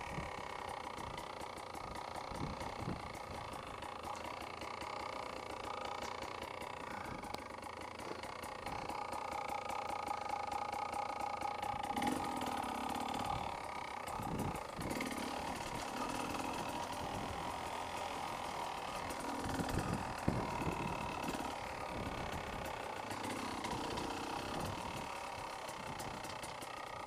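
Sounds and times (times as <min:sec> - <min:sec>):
motorcycle engine running at low revs: 0:00.0 - 0:27.0.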